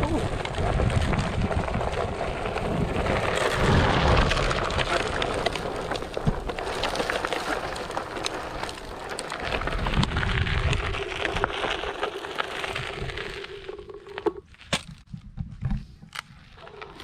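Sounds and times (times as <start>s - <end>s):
wind noise on microphone: 0.0s - 12.0s, 14.7s - 16.5s
tyre crunching over dirt: 0.2s - 15.1s.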